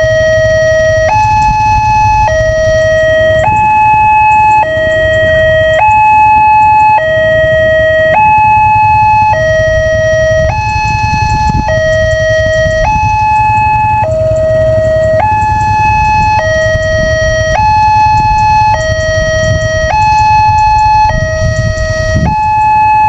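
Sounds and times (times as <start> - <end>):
low rumble: 0.0 - 23.0
two-tone electronic warning siren: 0.0 - 23.0.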